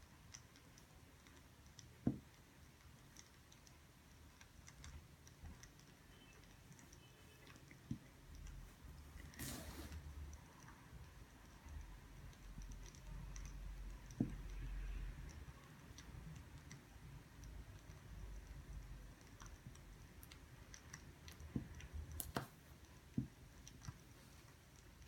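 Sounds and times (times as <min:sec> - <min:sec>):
soft clicks and taps: 0:00.2 - 0:25.0.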